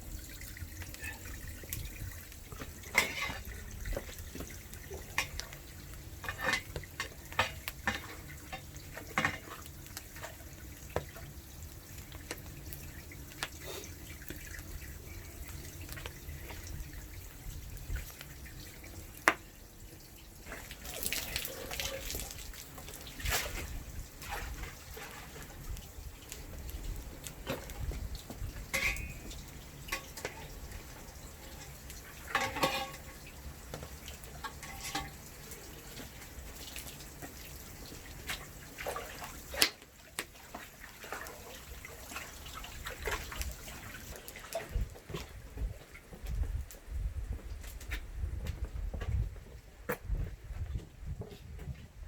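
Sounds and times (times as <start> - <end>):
water splashing in a sink: 0.0 - 45.2.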